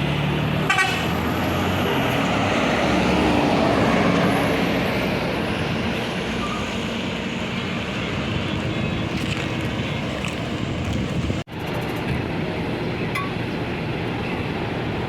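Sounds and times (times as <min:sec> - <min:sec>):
bus engine and tyre roar: 0:00.0 - 0:15.0.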